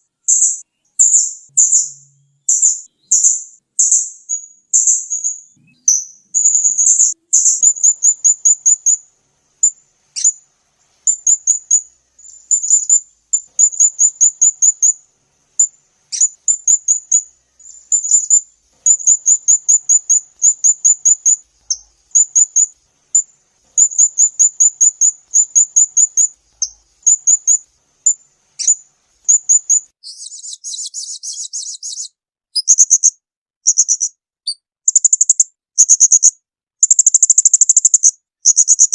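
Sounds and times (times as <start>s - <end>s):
songbird singing sharp notes: 0.0s - 10.4s, 11.1s - 15.0s, 15.6s - 38.9s.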